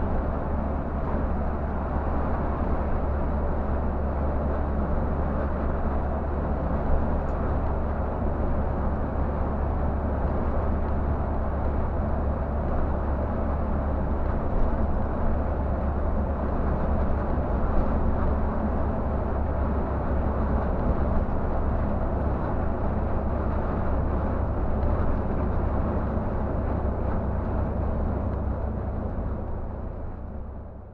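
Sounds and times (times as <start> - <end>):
coach engine drone: 0.0 - 30.9
road and tyre noise: 0.0 - 30.9.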